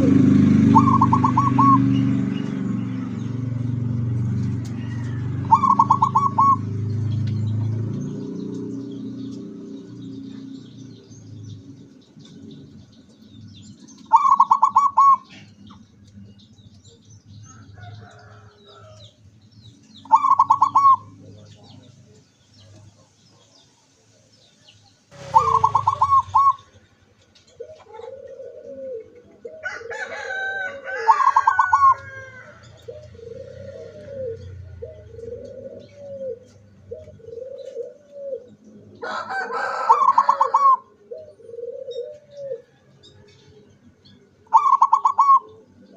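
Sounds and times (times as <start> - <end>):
doves cooing: 0.0 - 23.6, 25.1 - 45.9.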